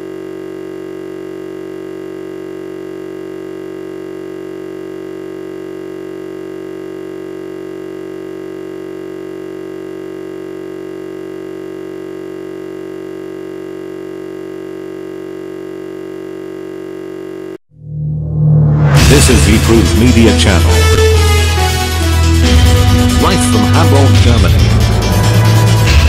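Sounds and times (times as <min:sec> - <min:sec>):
electronic buzz with low hum: 0:00.0 - 0:26.0.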